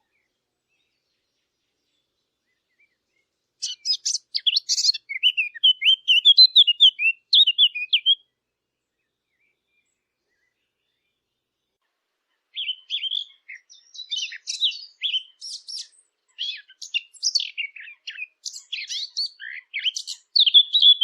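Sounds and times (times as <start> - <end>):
warbler singing: 0.0 - 21.0.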